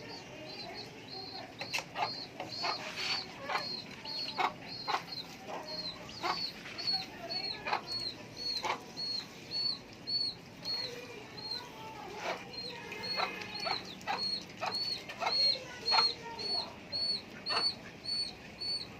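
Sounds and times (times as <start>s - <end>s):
birds peeping: 0.0s - 18.9s.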